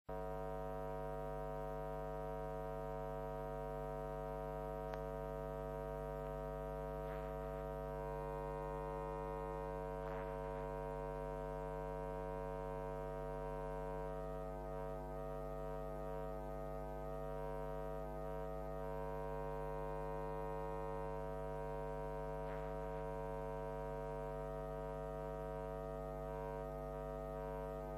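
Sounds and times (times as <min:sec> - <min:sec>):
electrical mains hum: 0:00.1 - 0:27.9.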